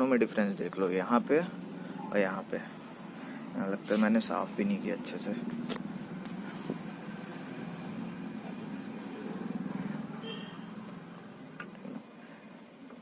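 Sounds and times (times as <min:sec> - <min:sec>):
traffic rumble: 0:00.0 - 0:13.0
vehicle passing: 0:00.6 - 0:12.7.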